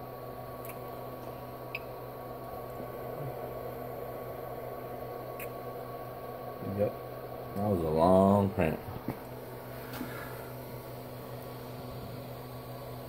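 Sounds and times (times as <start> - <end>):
low machine hum and hiss: 0.0 - 13.0.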